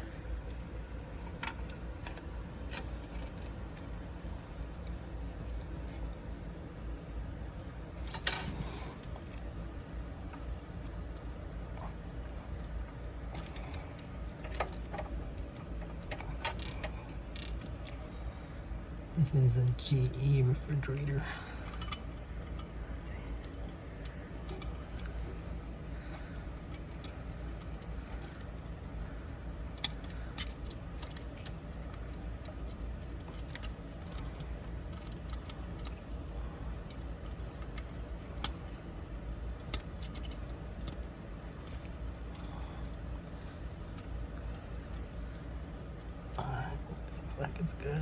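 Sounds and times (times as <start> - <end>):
small clicks and rattles: 0.0 - 19.0, 21.2 - 47.1
steady low hum: 0.0 - 48.0.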